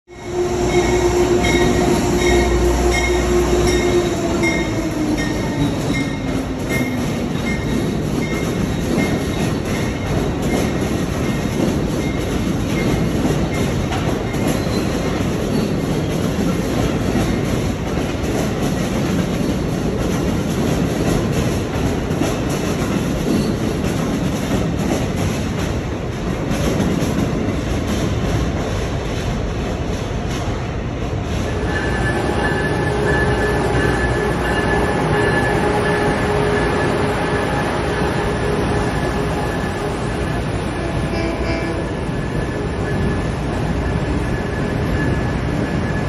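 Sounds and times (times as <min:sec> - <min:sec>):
wheels rumbling on rail: 0:00.1 - 0:46.0.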